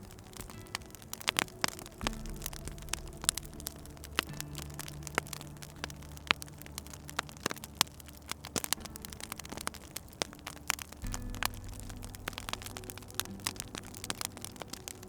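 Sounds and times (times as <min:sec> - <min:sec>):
low steady hum: 0:00.0 - 0:15.0
wood fire crackling: 0:00.0 - 0:15.0.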